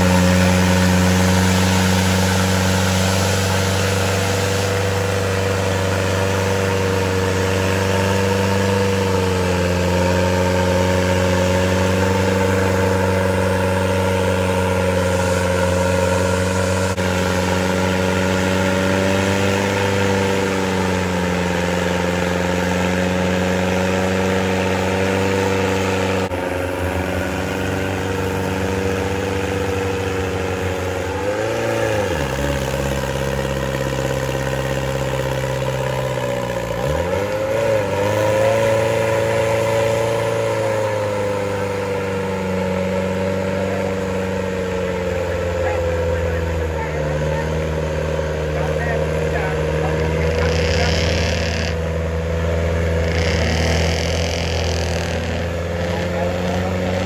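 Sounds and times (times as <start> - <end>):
engine at high revs: 0.0 - 57.0
wheels spinning in mud: 0.0 - 57.0.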